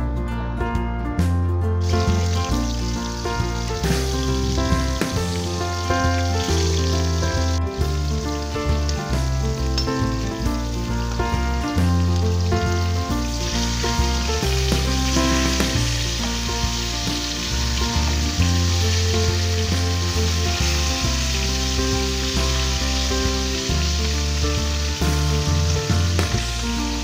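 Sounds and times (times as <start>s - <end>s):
background music with bass line: 0.0s - 27.0s
fish sizzling in hot oil: 1.8s - 27.0s.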